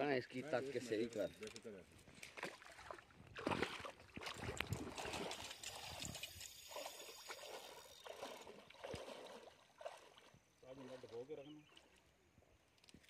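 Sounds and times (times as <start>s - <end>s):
water splashing and trickling: 0.7s - 12.2s.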